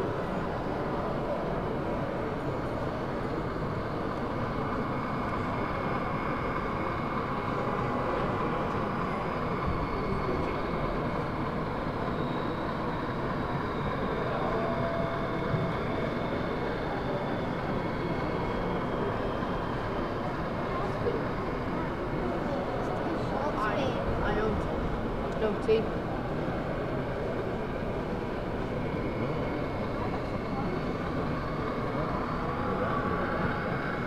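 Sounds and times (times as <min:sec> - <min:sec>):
faint whining tones: 0:00.0 - 0:34.0
hall background noise: 0:00.0 - 0:34.0
model trains humming: 0:00.0 - 0:34.0.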